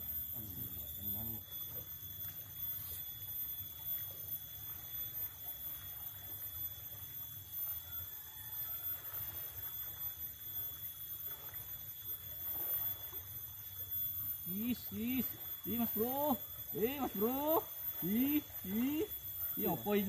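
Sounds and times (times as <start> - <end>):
flowing river water: 0.0 - 20.0
wind: 0.0 - 20.0.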